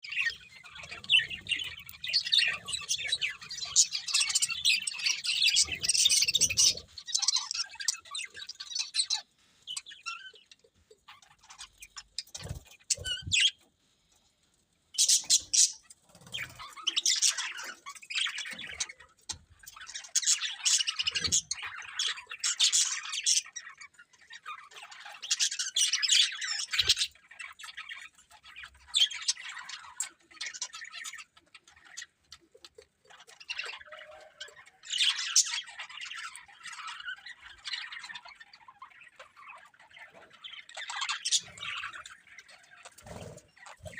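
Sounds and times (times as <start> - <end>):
budgerigars chirping: 0.1 - 13.6, 15.0 - 19.0, 19.6 - 43.9.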